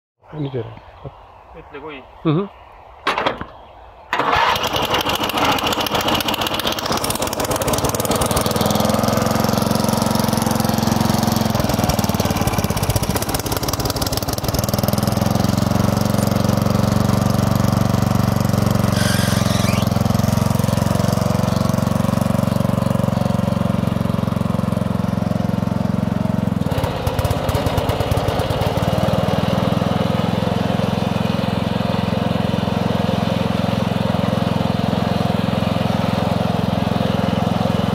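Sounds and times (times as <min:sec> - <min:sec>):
riding lawn mower engine running: 0:04.1 - 0:37.9.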